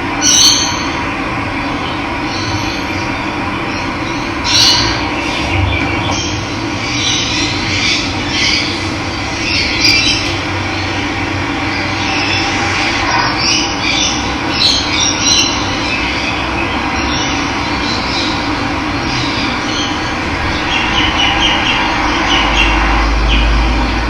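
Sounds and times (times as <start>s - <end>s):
birds chirping: 0.2s - 24.0s.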